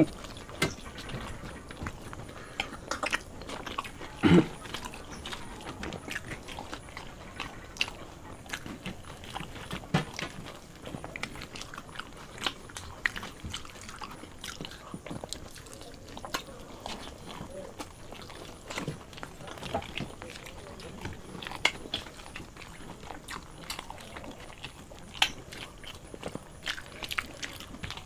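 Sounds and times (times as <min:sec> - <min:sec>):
chewing food: 0:00.0 - 0:28.0.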